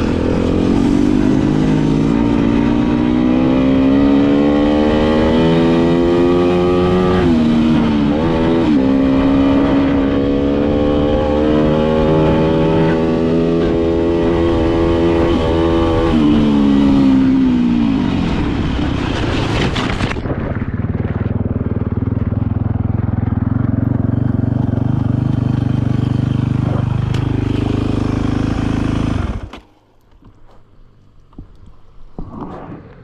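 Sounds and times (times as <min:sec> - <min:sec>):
dirt bike engine running hard: 0:00.0 - 0:29.6.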